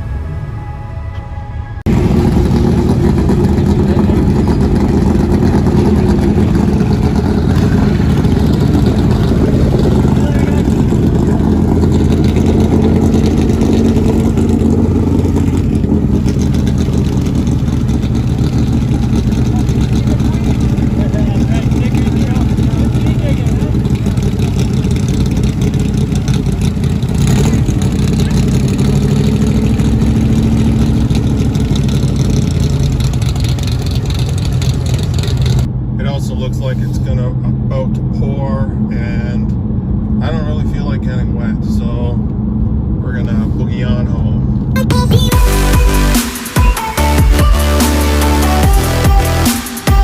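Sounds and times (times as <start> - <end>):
car engine low drone: 0.0 - 50.0
steady engine tone: 0.0 - 50.0.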